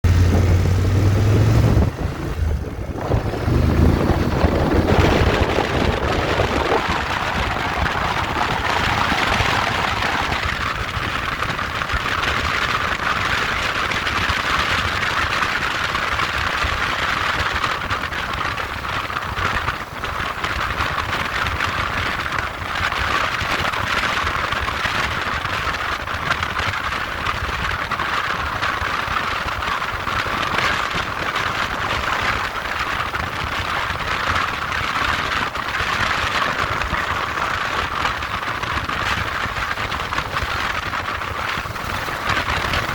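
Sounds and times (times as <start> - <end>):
moped riding: 0.0 - 42.9.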